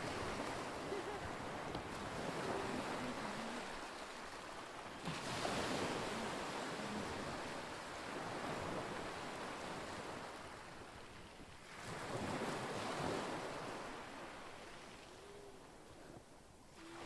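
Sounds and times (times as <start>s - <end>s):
lake water: 0.0s - 17.0s
wind: 0.0s - 17.0s.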